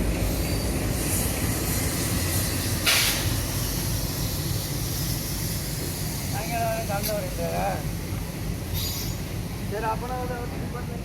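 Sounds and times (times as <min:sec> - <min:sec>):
passenger train rumbling: 0:00.0 - 0:11.0
sharp hiss of air: 0:00.1 - 0:09.8.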